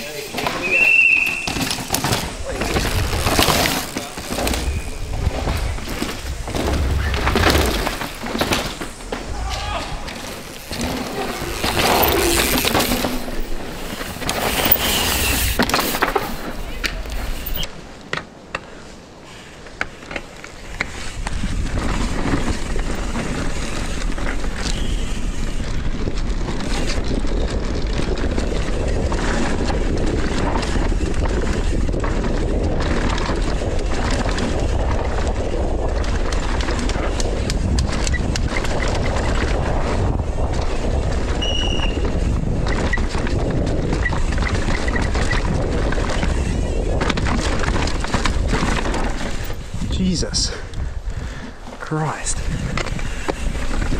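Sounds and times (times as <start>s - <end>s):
tyres rumbling on dirt: 0.0s - 17.7s, 19.9s - 50.5s
bike rattling and knocking: 0.3s - 18.3s, 19.8s - 49.9s, 52.5s - 53.9s
wind on microphone: 4.3s - 17.7s, 20.8s - 53.9s.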